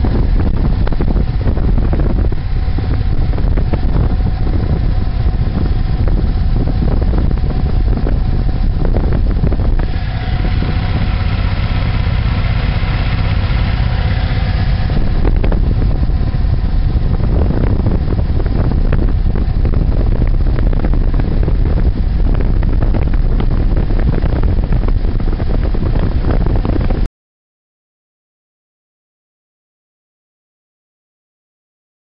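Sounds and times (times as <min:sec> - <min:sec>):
motorcycle engine droning: 0:00.0 - 0:27.1
wind rushing over microphone: 0:00.0 - 0:27.1.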